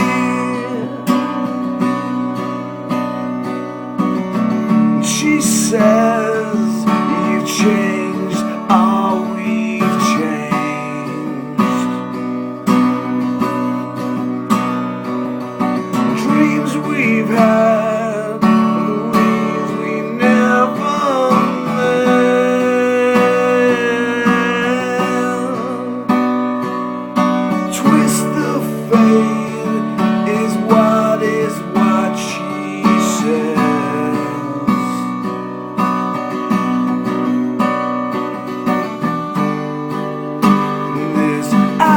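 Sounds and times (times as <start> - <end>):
strummed acoustic guitar: 0.0 - 41.9.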